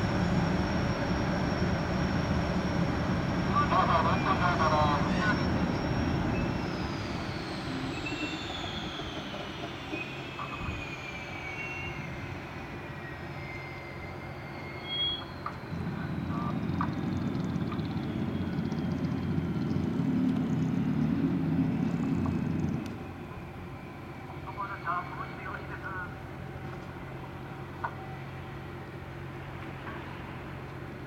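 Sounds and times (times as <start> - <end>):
gas turbines whining down: 0.0 - 28.0.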